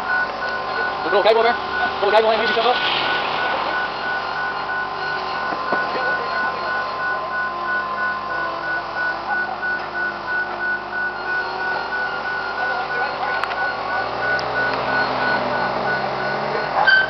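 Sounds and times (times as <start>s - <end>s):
diesel engines running: 0.0s - 17.0s
thin steady whine: 0.0s - 17.0s.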